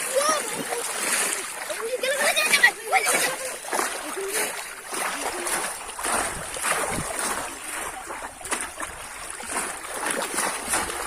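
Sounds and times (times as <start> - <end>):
sharp splashes: 0.0 - 11.0
water splashing and sloshing: 0.0 - 11.0.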